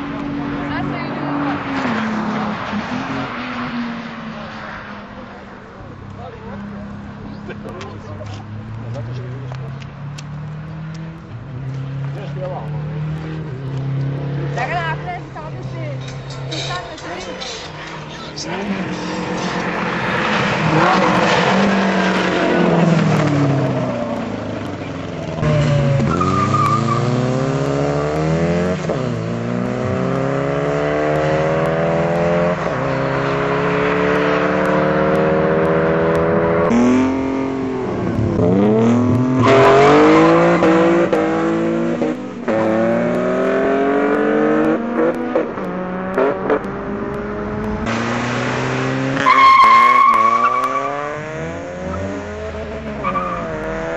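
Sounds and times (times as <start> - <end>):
car engines at full throttle: 0.0 - 53.9.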